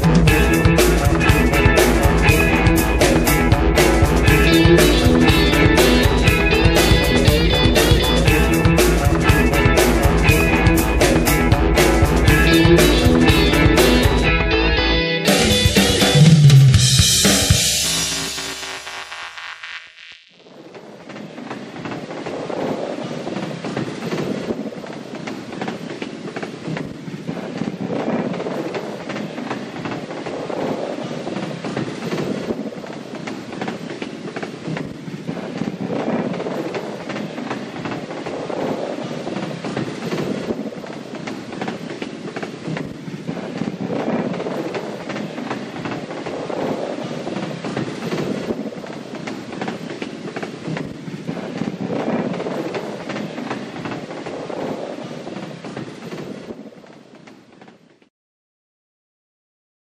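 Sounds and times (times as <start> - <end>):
train wheels rumbling on rails: 0.0 - 14.3, 20.6 - 58.1.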